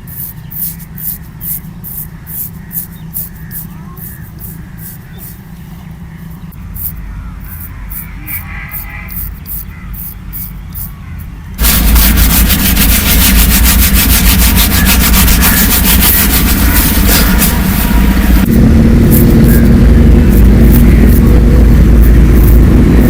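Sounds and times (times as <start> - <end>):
razor scraping chest hair: 0.0 - 5.6, 6.2 - 11.0, 11.6 - 23.0
rapid grating: 0.0 - 23.0.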